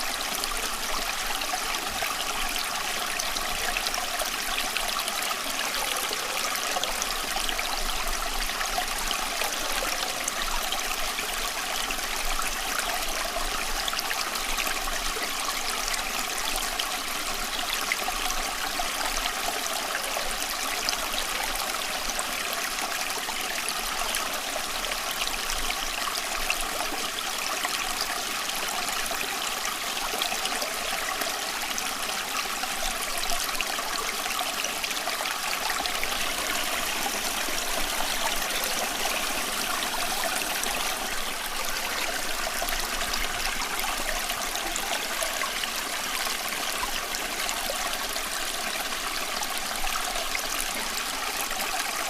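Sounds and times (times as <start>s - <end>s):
running water: 0.0s - 52.0s.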